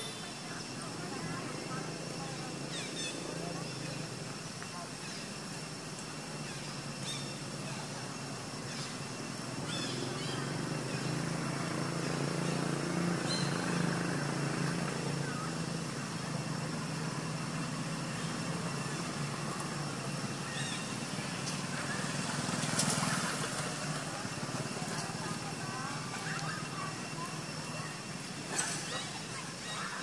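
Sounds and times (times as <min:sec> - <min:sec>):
distant motor vehicle engine hum: 0:00.0 - 0:30.0
outdoor background noise: 0:00.0 - 0:30.0.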